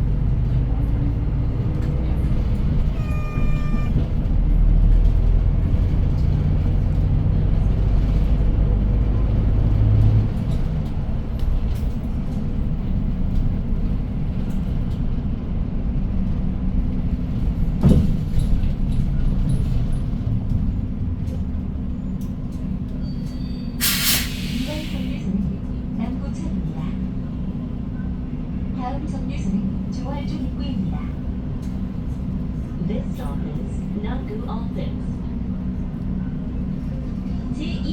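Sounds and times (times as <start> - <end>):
bus engine drone: 0.0 - 37.9
road noise: 0.0 - 37.9.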